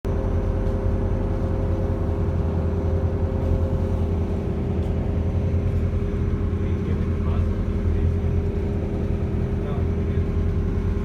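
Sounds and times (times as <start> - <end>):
boat engine droning: 0.1 - 11.0.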